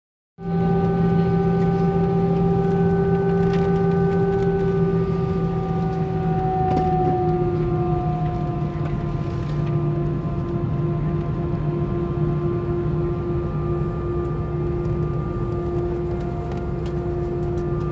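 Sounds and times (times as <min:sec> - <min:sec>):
jet engines idling in cabin: 0:00.4 - 0:17.9.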